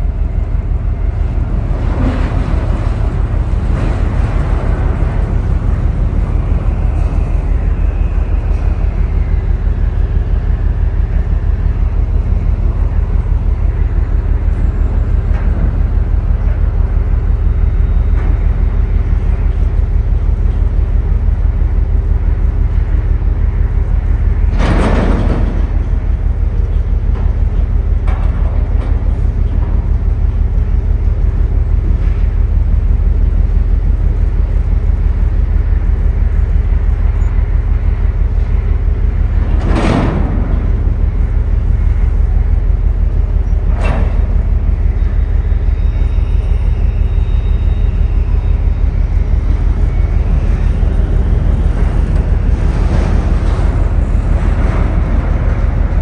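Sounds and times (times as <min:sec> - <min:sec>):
low crane rumble: 0:00.0 - 0:56.0.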